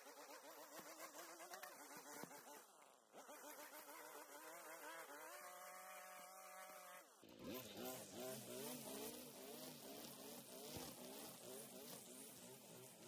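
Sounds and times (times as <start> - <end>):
string trimmer running: 0.0 - 13.0.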